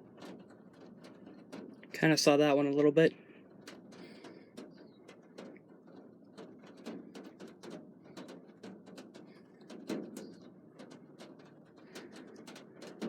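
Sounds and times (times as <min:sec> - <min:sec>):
raindrops tapping: 0:00.0 - 0:13.0.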